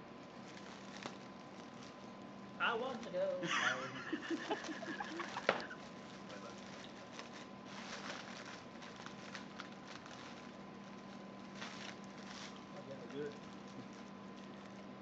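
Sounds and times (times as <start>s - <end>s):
foil balloon crinkling: 0.0s - 15.0s.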